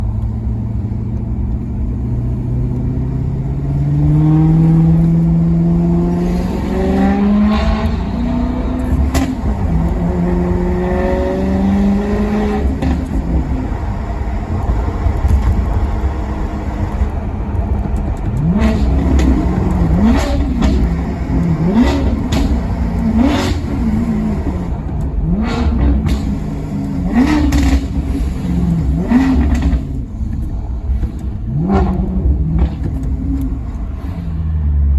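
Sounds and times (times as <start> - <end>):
car engine accelerating: 0.0 - 34.9
engine throttle blips: 0.0 - 34.9
exhaust cracks: 0.0 - 34.9.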